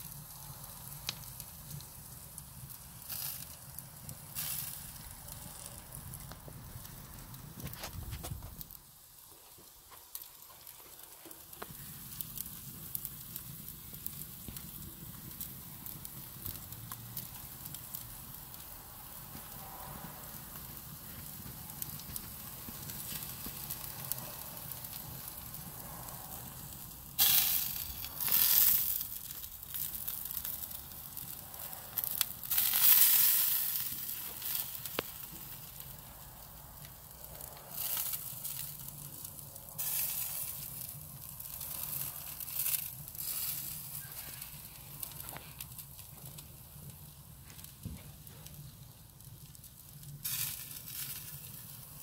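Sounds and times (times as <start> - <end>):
meat sizzling on grill: 0.0 - 52.0
wood fire crackling and hissing: 0.0 - 52.0.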